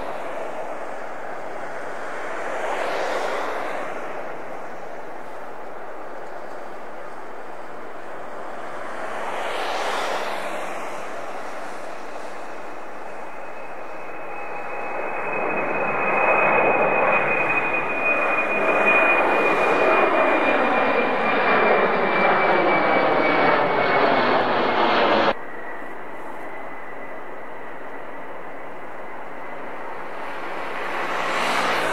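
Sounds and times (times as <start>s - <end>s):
jet engines whining: 0.0s - 31.9s.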